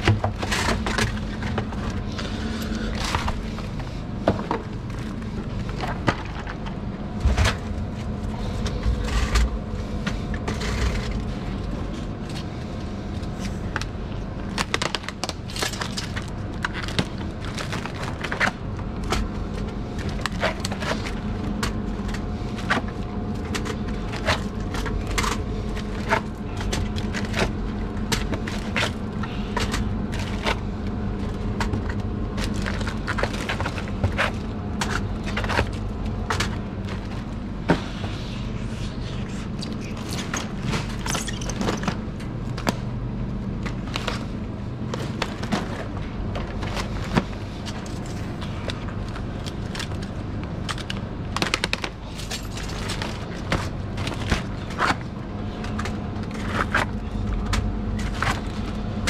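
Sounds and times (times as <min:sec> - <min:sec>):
steady background hum: 0:00.0 - 0:59.0.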